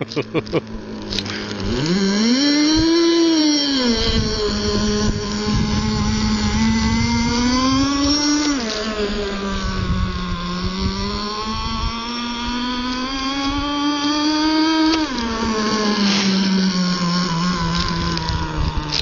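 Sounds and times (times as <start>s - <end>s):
model boat engine buzzing: 0.0s - 19.0s.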